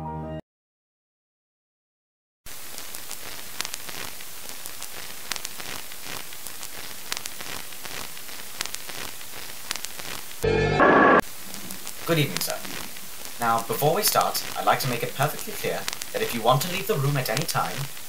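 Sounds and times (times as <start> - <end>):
crackles and pops: 2.5 - 18.0
static hiss: 2.5 - 18.0.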